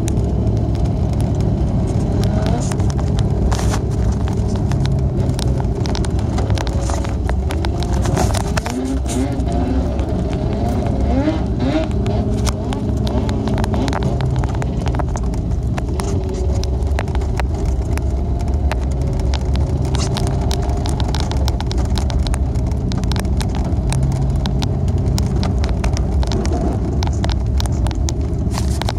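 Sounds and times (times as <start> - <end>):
car engine and tyres rumbling: 0.0 - 28.9
sharp ticks and clicks: 0.0 - 28.9.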